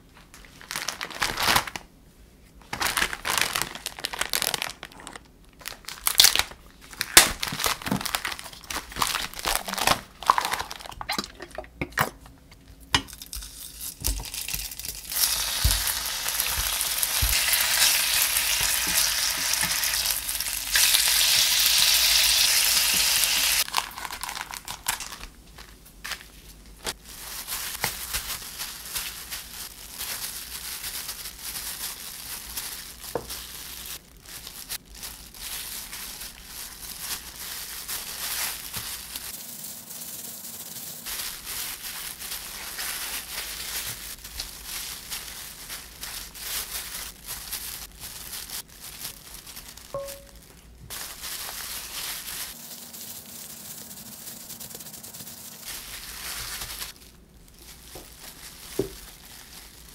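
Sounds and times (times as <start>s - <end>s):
plastic gloves crinkling: 0.0s - 59.9s.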